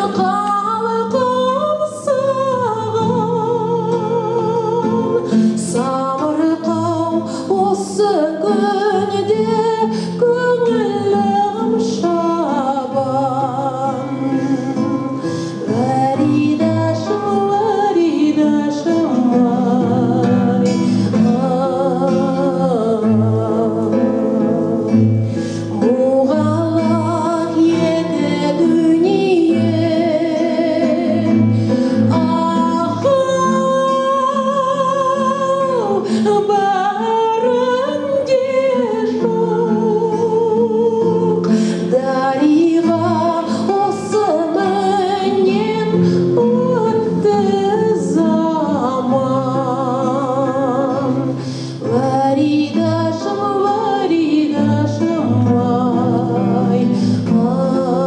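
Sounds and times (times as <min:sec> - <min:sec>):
solo voice singing with vibrato: 0:00.0 - 0:58.0.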